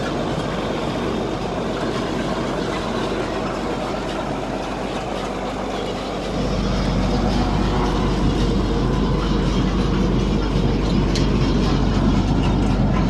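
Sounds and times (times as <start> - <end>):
farm machinery running: 0.0 - 13.0.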